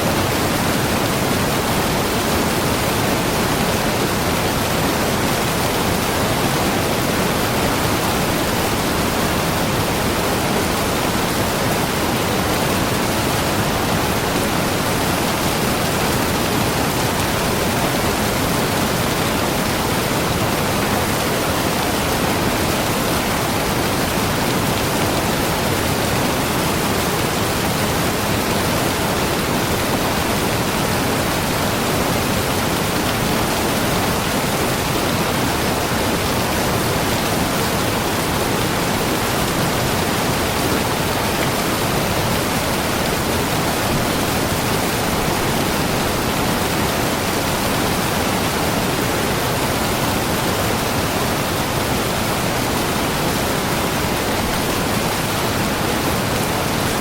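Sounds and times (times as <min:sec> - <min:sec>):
waterfall pouring: 0:00.1 - 0:57.0.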